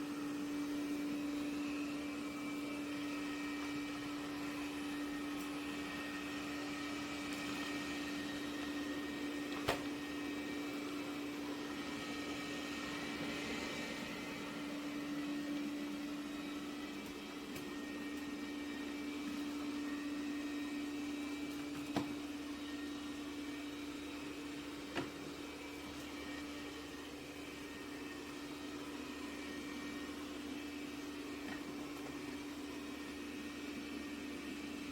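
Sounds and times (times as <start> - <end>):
robot vacuum motor humming: 0.0 - 34.9.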